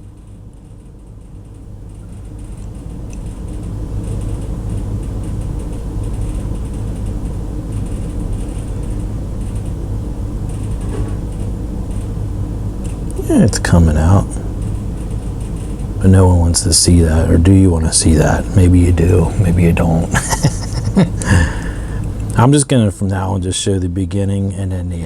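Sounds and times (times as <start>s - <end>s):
low mechanical rumble with hum: 0.0s - 25.0s.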